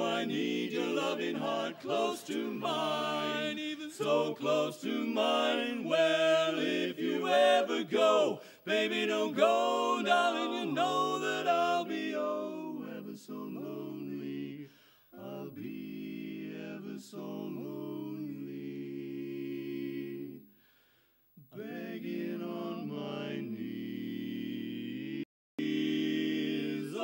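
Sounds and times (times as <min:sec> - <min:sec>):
male quartet singing a cappella: 0:00.0 - 0:20.5, 0:21.5 - 0:27.0.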